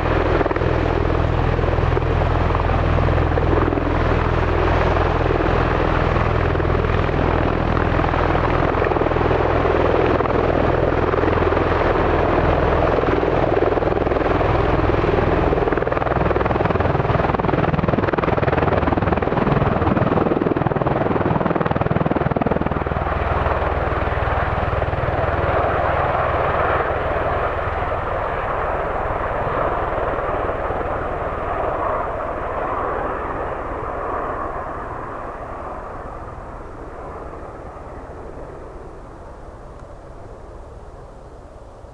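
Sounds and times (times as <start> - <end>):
aircraft engines droning: 0.0 - 41.9.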